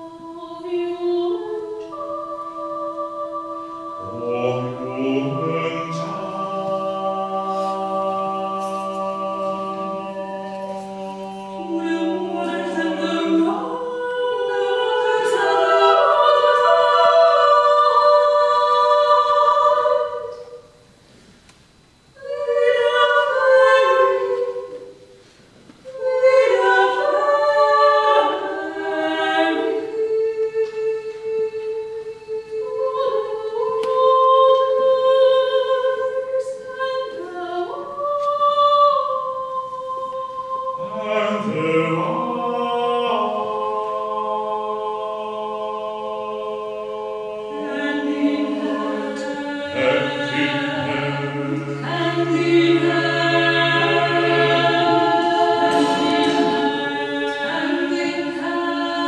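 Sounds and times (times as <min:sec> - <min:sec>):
vocal ensemble singing: 0:00.0 - 0:21.0, 0:22.0 - 0:59.0.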